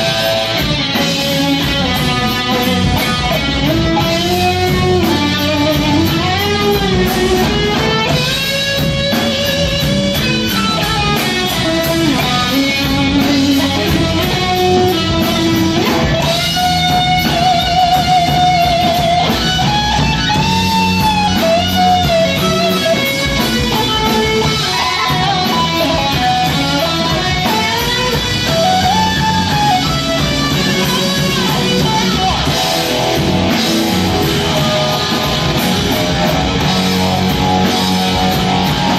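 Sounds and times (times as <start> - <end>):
bass guitar: 0.0 - 38.9
drum kit with cymbals: 0.0 - 38.9
lead electric guitar: 0.0 - 38.9.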